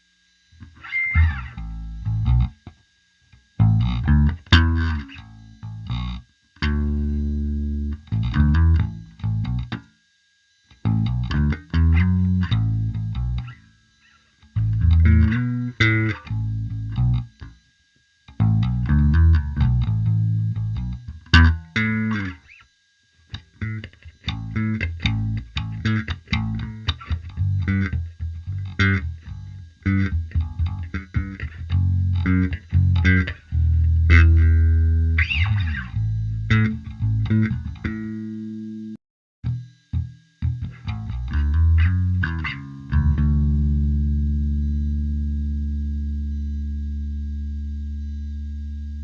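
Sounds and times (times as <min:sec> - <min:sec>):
electric bass notes: 0:00.0 - 0:09.9, 0:10.7 - 0:17.6, 0:18.3 - 0:22.6, 0:23.3 - 0:49.0.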